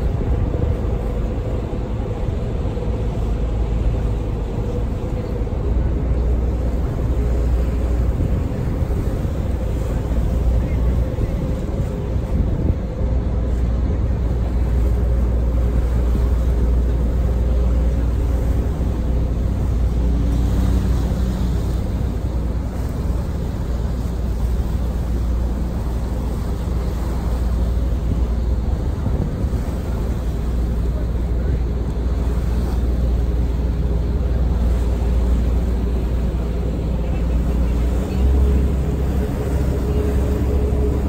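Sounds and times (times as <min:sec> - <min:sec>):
ferry engines rumbling: 0:00.0 - 0:41.0.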